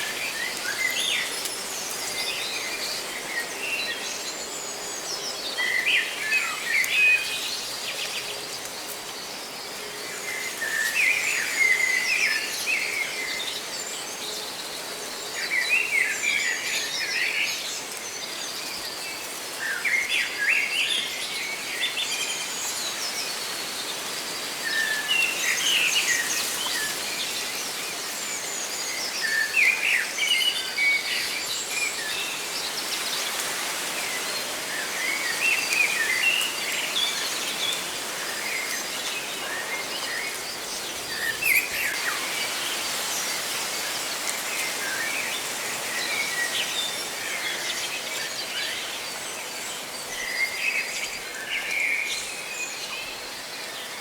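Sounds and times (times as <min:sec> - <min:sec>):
leaves rustling: 0:00.0 - 0:54.0.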